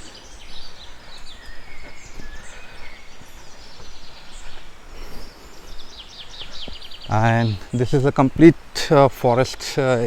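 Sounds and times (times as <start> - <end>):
bird chirps: 0.0 - 8.5.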